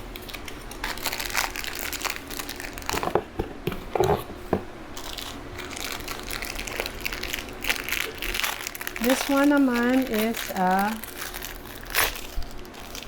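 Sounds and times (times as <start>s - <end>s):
plastic packaging crinkling: 0.0s - 3.3s, 4.9s - 13.0s.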